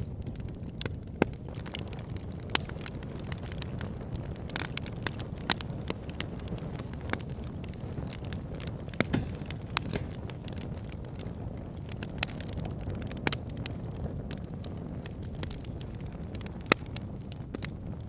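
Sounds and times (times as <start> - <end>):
fire crackling and popping: 0.0 - 18.0
fire flames rushing: 0.0 - 18.0.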